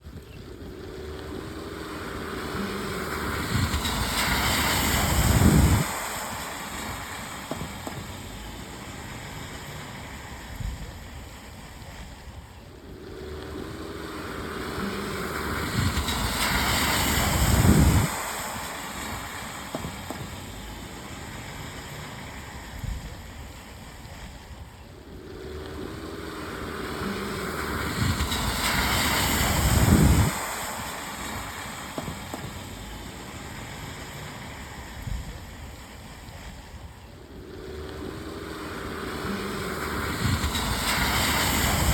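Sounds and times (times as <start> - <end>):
cars driving through puddles: 0.0 - 41.9
steady rain hiss: 0.0 - 41.9.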